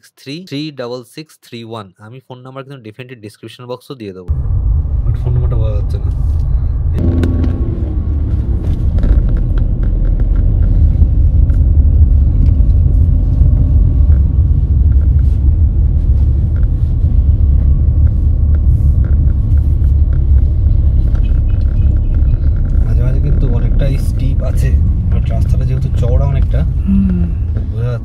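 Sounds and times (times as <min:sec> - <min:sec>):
traffic rumble: 0:04.3 - 0:28.0.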